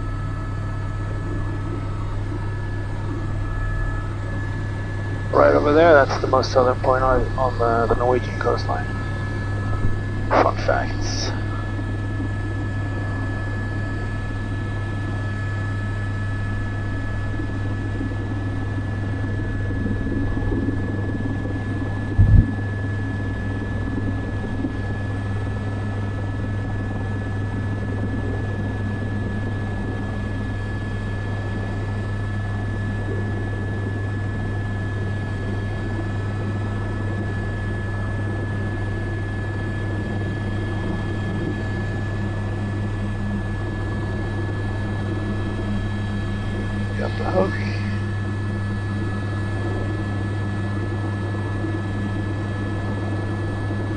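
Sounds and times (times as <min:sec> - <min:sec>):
high whine: 0:00.0 - 0:32.3, 0:36.9 - 0:53.9
helicopter engine and rotors droning: 0:00.0 - 0:53.9.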